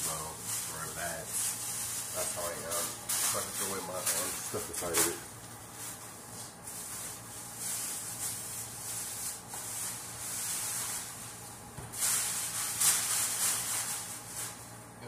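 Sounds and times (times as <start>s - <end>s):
plastic bags rustling: 0.0s - 14.8s.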